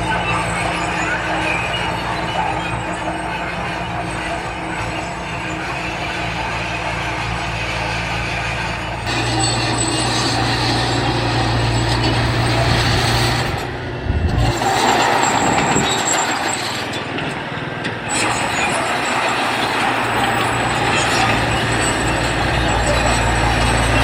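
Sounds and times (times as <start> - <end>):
diesel engine hum: 0.0 - 24.0.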